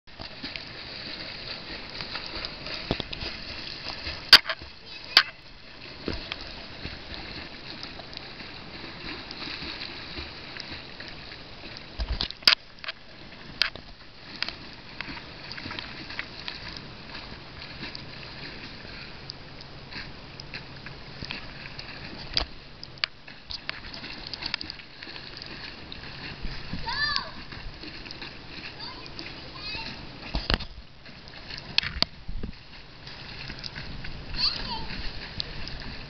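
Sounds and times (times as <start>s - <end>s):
legs kicking and splashing water: 0.1s - 36.0s.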